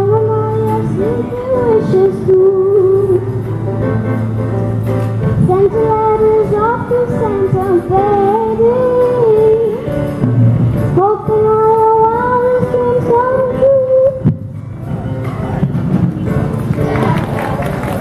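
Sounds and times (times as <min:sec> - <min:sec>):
musical accompaniment: 0:00.0 - 0:18.0.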